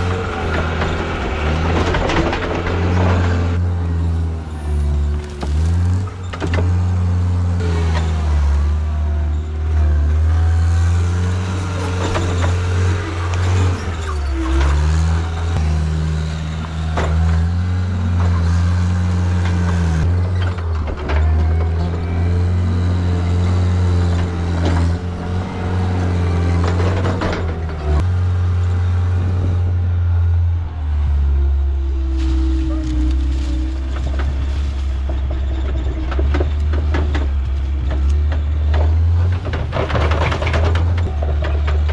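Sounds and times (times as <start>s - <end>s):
diesel engine working under load: 0.0s - 41.9s.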